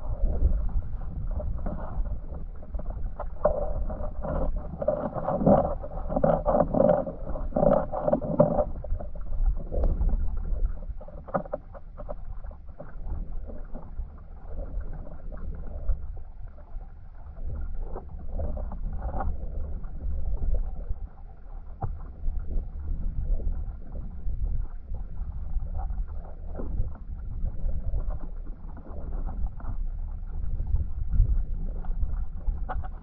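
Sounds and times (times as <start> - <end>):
underwater clicks and crackles: 0.0 - 33.0
underwater river current rumble: 0.0 - 33.0.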